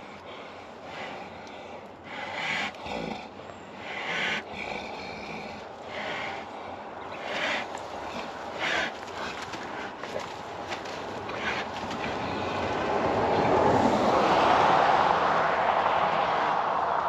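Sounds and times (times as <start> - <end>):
bulls snorting: 0.0 - 15.0.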